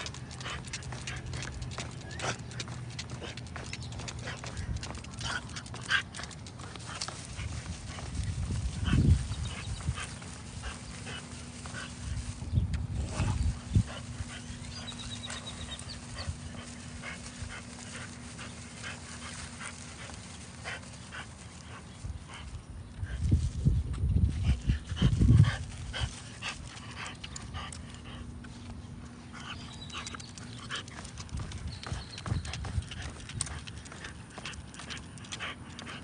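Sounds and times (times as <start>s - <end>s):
dog sniffing and snuffling: 0.0s - 23.6s, 24.2s - 36.0s.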